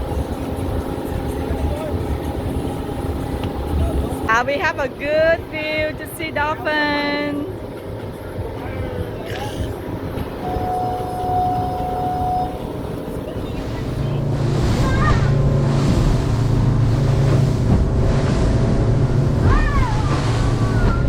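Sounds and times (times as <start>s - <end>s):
motorboat engine running: 0.0s - 21.0s
water rushing around hull: 0.0s - 21.0s
wind: 0.0s - 21.0s.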